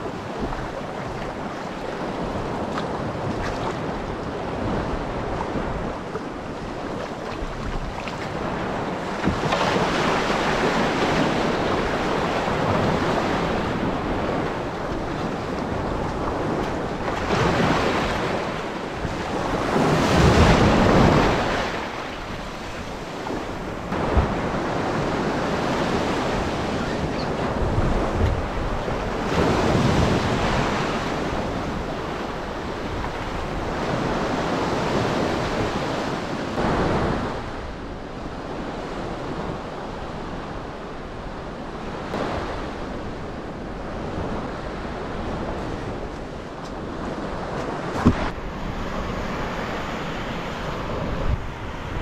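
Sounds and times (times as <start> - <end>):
sea waves washing: 0.0 - 52.0
wind on microphone: 0.0 - 52.0.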